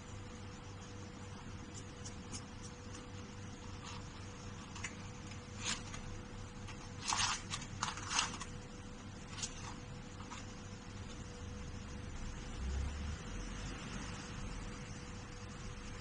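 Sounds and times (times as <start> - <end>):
faint constant tone: 0.0 - 16.0
steady low hum: 0.0 - 16.0.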